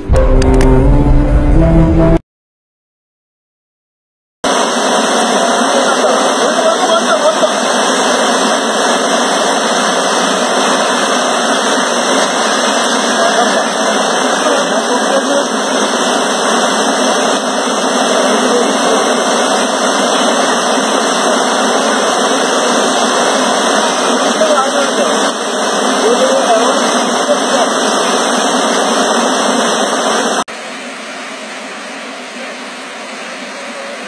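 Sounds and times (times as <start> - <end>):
river rushing: 4.5 - 34.0.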